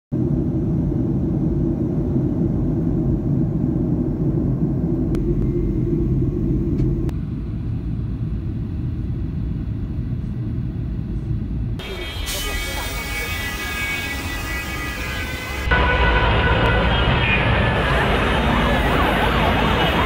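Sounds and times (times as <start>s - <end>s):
airliner cabin engine rumble: 0.1s - 20.0s.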